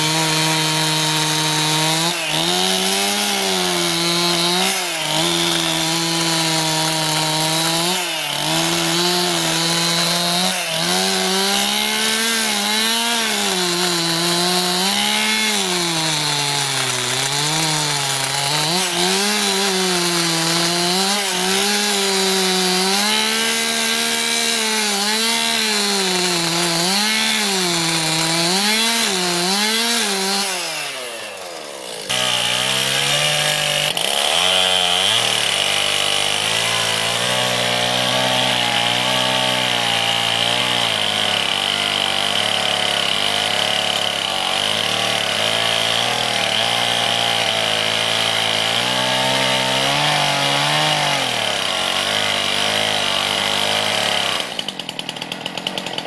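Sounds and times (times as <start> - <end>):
chainsaw stripping bark: 0.0 - 56.0.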